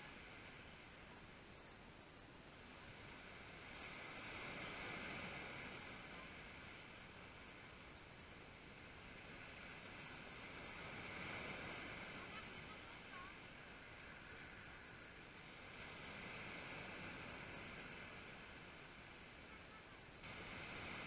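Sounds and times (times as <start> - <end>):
waves washing on pebble beach: 2.6 - 19.5, 20.2 - 21.0.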